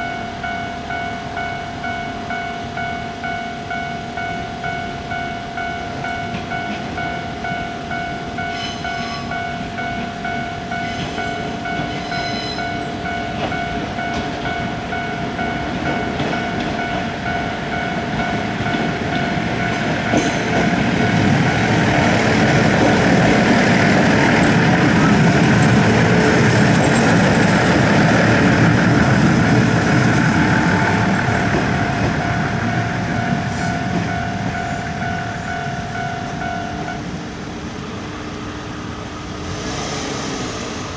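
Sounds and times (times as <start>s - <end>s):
level crossing bell clanging: 0.0s - 37.2s
train rumble: 0.0s - 40.9s.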